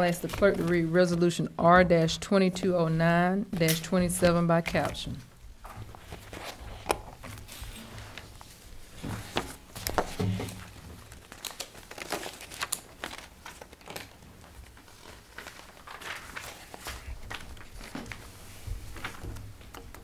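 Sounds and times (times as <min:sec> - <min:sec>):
paper rustling and shuffling: 0:00.0 - 0:02.7, 0:03.5 - 0:20.0.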